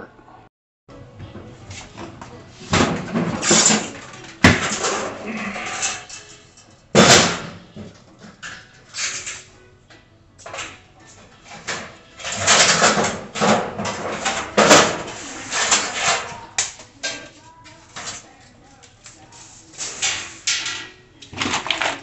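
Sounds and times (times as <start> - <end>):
rustling and scraping of grill parts: 1.3 - 22.0.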